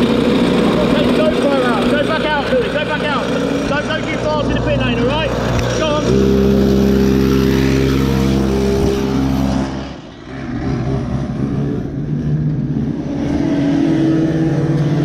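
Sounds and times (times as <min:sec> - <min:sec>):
racing engine running: 0:00.0 - 0:15.0.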